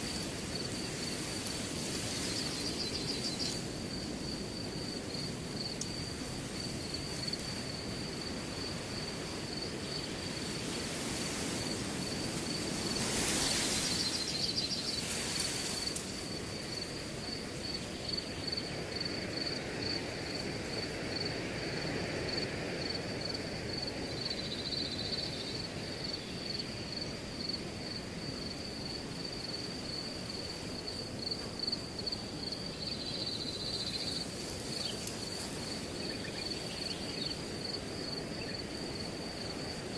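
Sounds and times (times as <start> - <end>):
crickets trilling: 0.0 - 39.9
wind rustling grass: 0.0 - 39.9.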